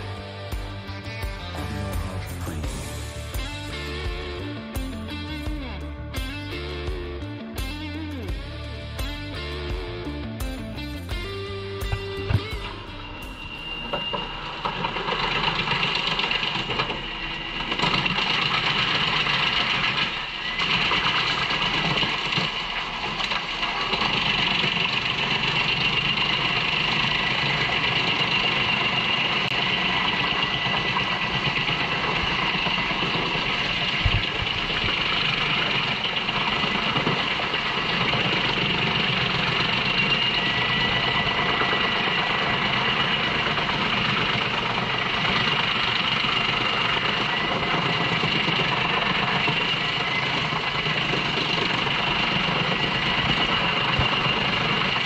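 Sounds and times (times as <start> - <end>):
high mechanical whine: 0.0 - 55.0
wood chipper chipping logs: 0.0 - 55.0.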